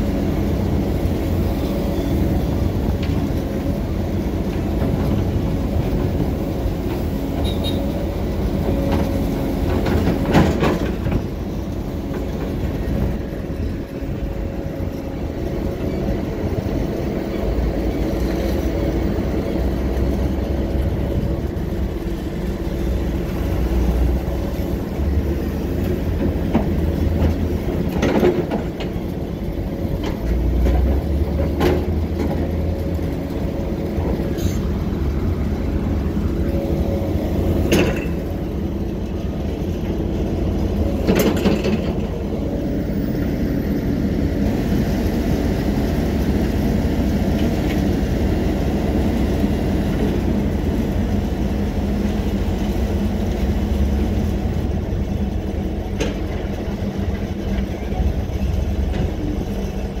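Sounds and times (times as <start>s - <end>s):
heavy machinery engine rumble: 0.0s - 60.0s.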